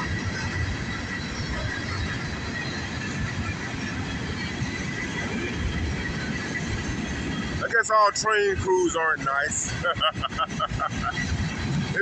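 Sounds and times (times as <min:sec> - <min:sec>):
freight train wheels clattering: 0:00.0 - 0:12.0.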